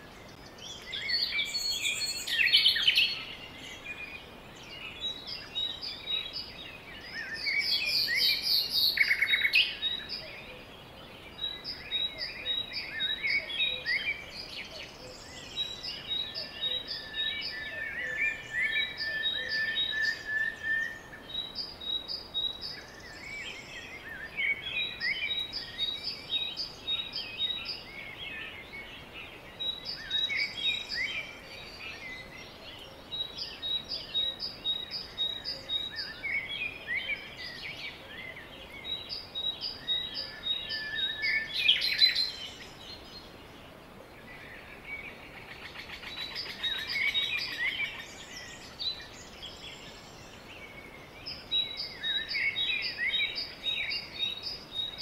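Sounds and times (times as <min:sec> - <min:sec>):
faint steady hiss: 0:00.0 - 0:55.0
songbirds singing and chirping: 0:00.0 - 0:55.0.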